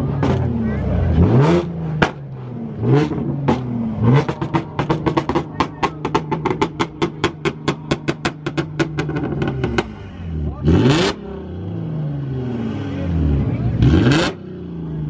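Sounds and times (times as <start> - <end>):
car engine revving: 0.0 - 15.0
exhaust cracking: 0.0 - 15.0.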